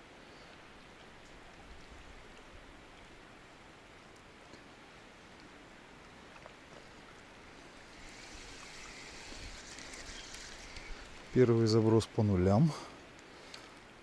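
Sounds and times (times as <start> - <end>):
river water rushing: 1.6 - 14.0.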